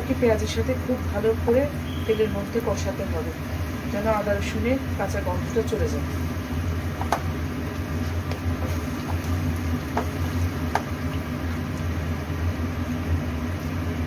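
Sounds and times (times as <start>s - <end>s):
onion frying in oil: 0.0s - 14.0s.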